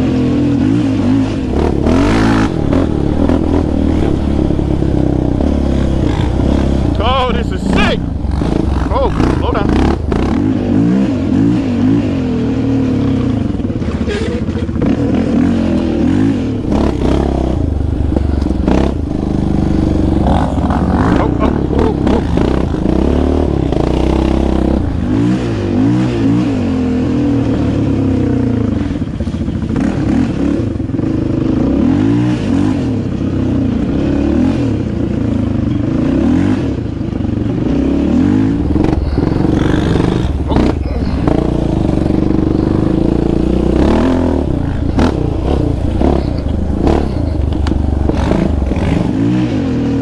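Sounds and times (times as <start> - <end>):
quad engine revving: 0.0 - 29.0, 29.8 - 34.9, 37.5 - 50.0.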